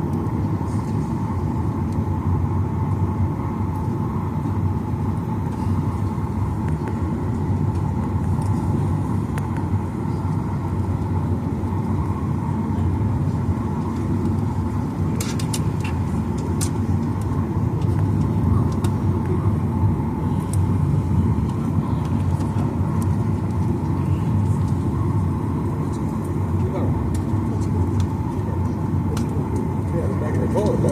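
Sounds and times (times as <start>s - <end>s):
airliner cabin rumble: 0.0s - 30.9s
constant hum: 0.0s - 30.9s.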